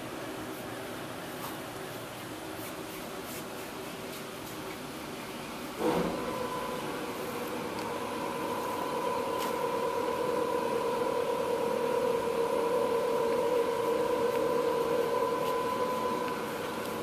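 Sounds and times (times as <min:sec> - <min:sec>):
mechanical hum with whine: 0:00.0 - 0:17.0.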